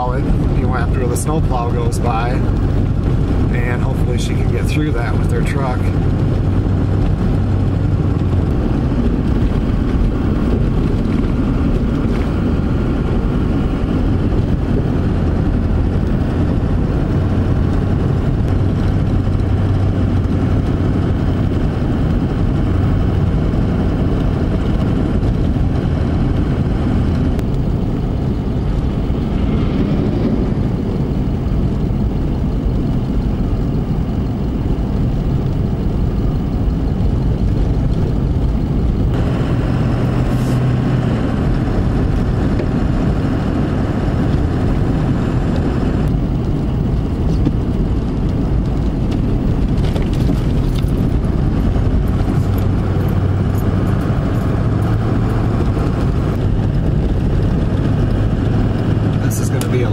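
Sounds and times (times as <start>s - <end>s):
car driving on snowy road: 0.0s - 59.9s.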